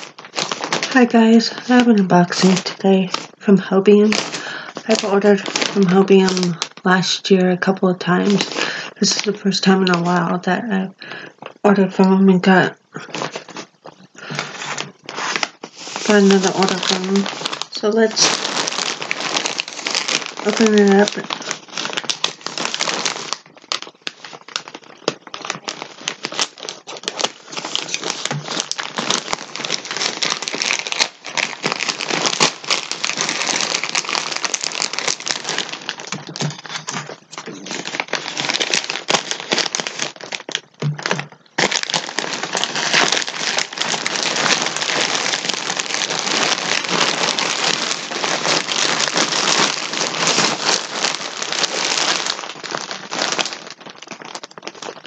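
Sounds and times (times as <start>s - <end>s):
plastic packaging crinkling: 0.0s - 55.0s.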